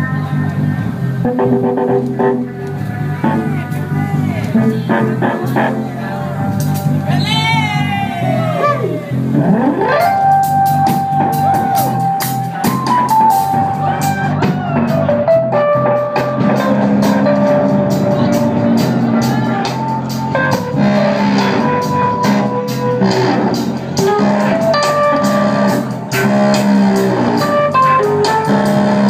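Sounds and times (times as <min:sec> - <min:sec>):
bass line: 0:00.0 - 0:29.0.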